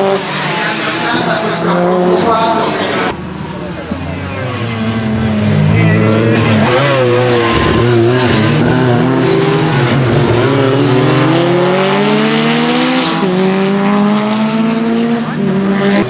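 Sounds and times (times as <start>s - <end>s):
car engine revving under load: 2.9s - 16.0s.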